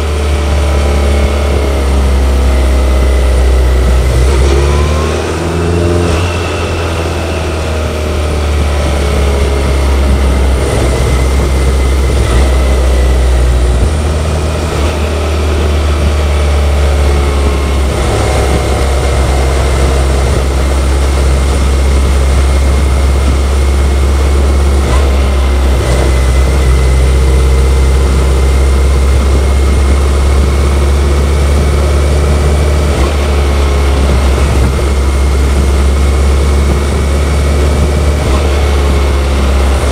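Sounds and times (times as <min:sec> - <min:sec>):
motorcycle engine droning: 0:00.0 - 0:39.9
wind rush: 0:00.0 - 0:39.9.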